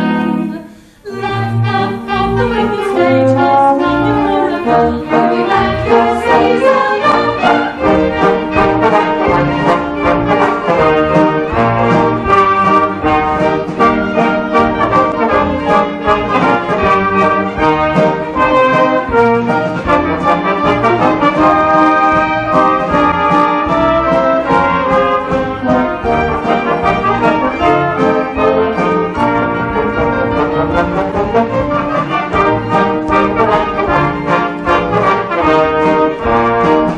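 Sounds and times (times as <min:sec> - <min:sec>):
orchestra playing with brass: 0:00.0 - 0:36.9.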